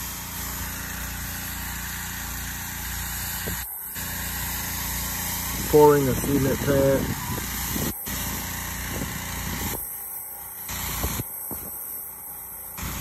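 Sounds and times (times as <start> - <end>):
engine running steadily: 0.0 - 13.0
water spraying from a wand: 0.0 - 13.0.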